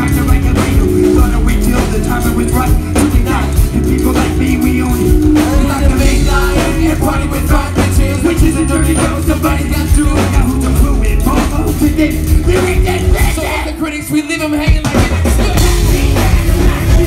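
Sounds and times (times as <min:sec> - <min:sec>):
person singing into a microphone: 0:00.0 - 0:17.0
rock band playing live: 0:00.0 - 0:17.0.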